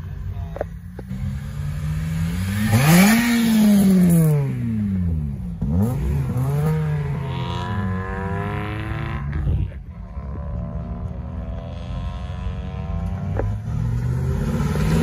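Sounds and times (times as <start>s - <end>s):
car engine accelerating: 0.6s - 15.0s.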